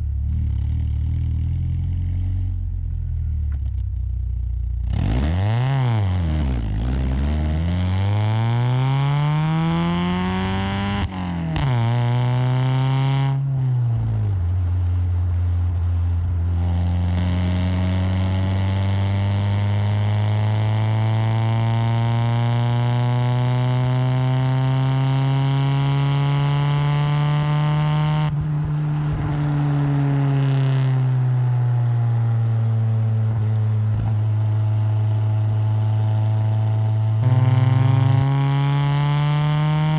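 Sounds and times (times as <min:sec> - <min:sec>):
car engine revving: 0:04.8 - 0:39.9.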